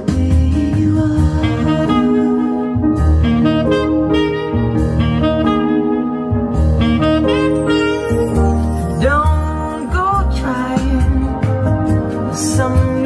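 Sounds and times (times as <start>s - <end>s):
bass line: 0.0s - 13.0s
recorded music over loudspeaker: 0.0s - 13.0s.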